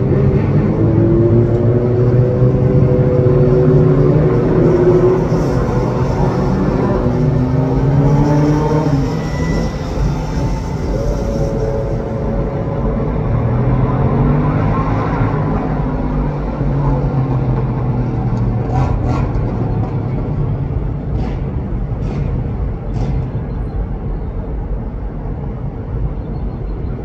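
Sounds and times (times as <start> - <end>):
low traffic rumble: 0.0 - 27.0
vehicle engines running: 0.0 - 27.0.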